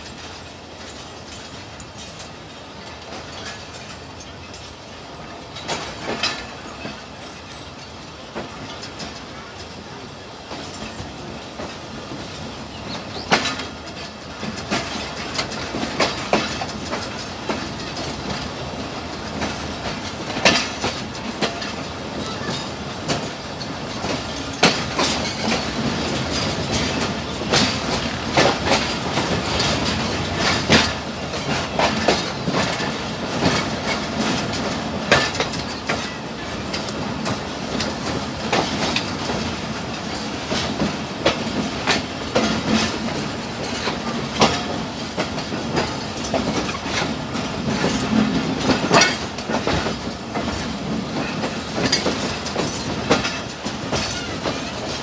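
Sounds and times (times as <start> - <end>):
train wheels clattering over joints: 0.0 - 55.0.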